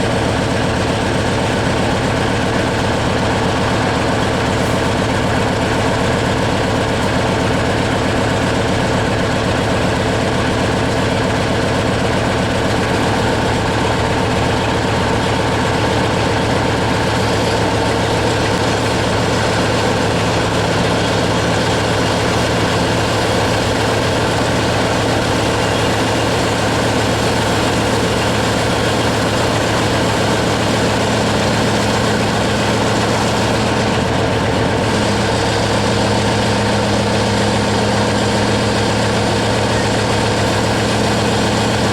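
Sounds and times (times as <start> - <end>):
heavy engine running: 0.0 - 41.9.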